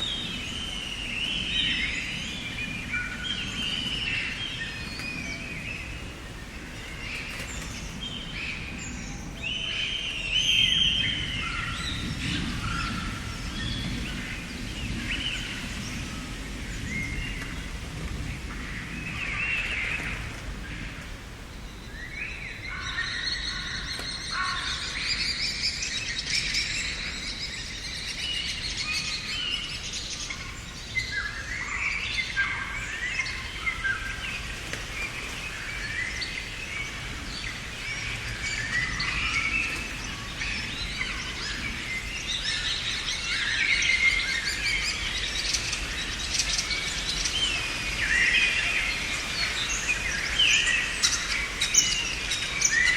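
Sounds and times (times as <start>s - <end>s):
faint background hiss: 0.0s - 52.9s
songbirds chirping and singing: 0.0s - 52.9s.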